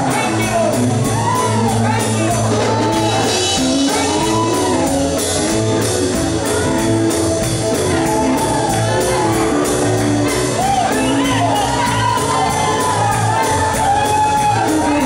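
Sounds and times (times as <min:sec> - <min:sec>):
upbeat gospel band playing: 0:00.0 - 0:15.0.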